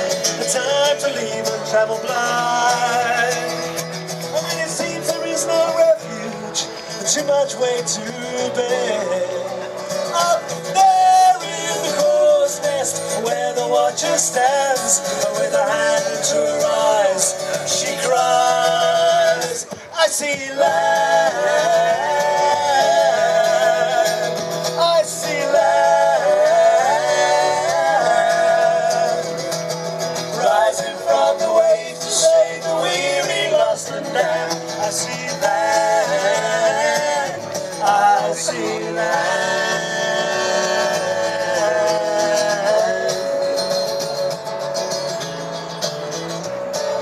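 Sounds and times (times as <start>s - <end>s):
folk music: 0.0s - 47.0s.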